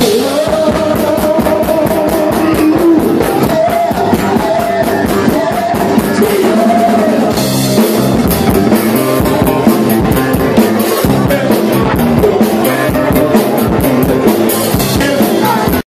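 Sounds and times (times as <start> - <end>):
live blues band playing: 0.0 - 15.8.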